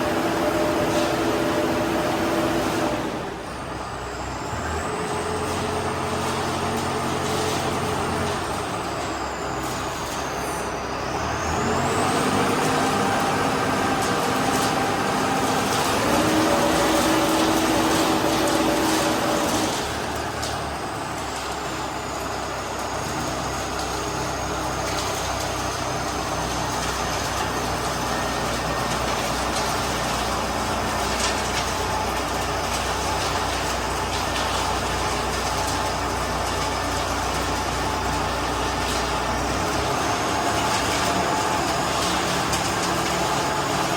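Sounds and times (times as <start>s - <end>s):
concrete mixer engine running: 0.0s - 43.9s.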